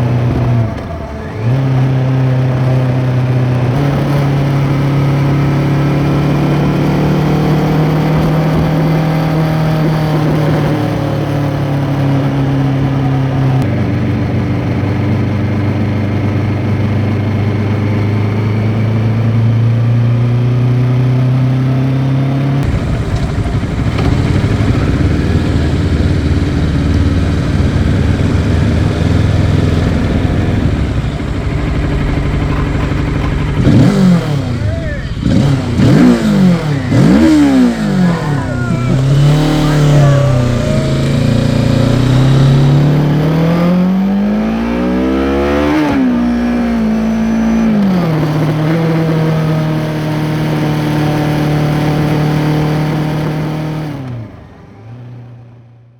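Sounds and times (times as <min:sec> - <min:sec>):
motorcycle engine accelerating: 0:00.0 - 0:55.8.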